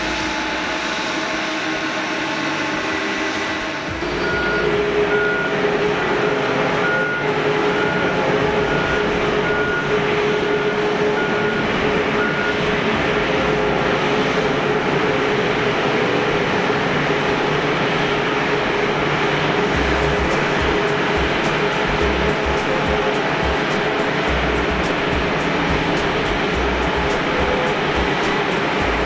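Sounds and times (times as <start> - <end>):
engine hum: 0.0 - 29.0
high warning beep: 4.0 - 29.0.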